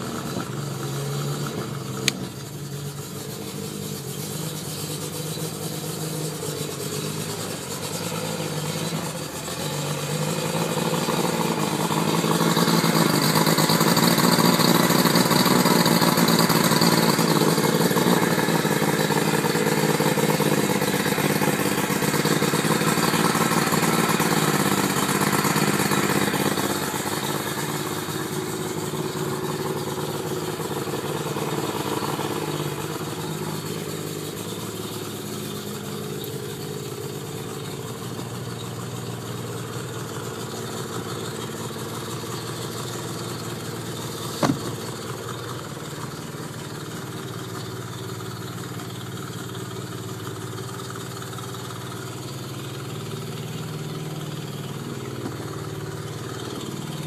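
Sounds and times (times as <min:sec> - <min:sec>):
outboard motor idling: 0:00.0 - 0:57.0.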